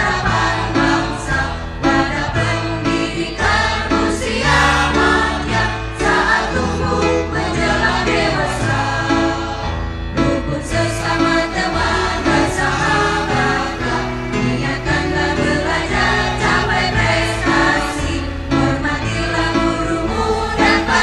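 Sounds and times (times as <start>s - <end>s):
choir singing a march song: 0.0s - 21.0s
instrumental backing with bass: 0.0s - 21.0s.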